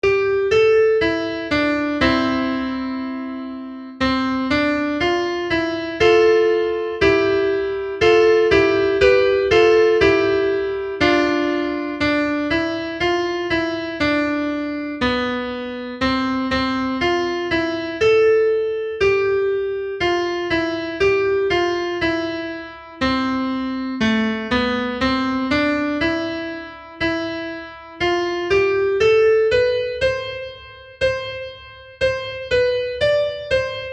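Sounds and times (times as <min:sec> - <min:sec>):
slow solo piano: 0:00.0 - 0:33.9.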